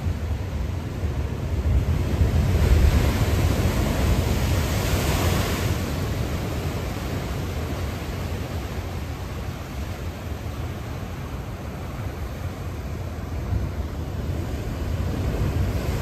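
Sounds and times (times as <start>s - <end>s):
wave breaking on shore: 0.0s - 16.0s.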